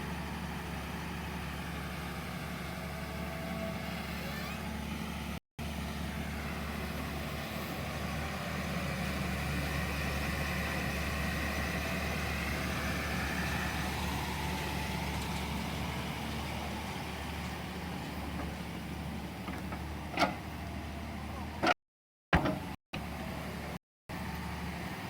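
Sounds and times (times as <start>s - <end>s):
excavator diesel engine running: 0.0s - 21.8s, 22.4s - 25.0s.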